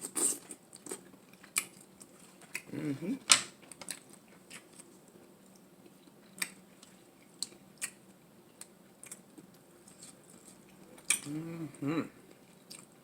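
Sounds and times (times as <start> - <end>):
chewing food: 0.0 - 2.8, 3.6 - 13.0.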